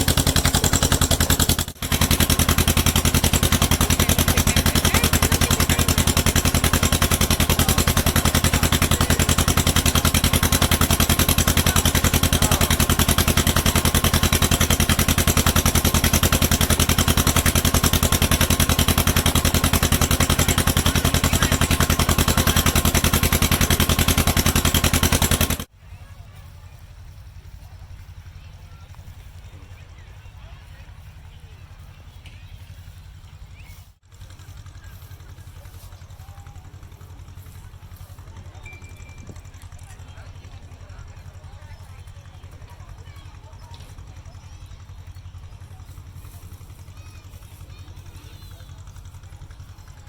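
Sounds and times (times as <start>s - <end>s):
engine running: 0.0s - 50.0s.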